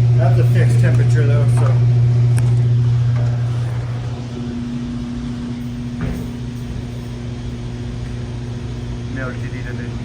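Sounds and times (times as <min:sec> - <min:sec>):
hot-air blower humming: 0:00.0 - 0:10.0.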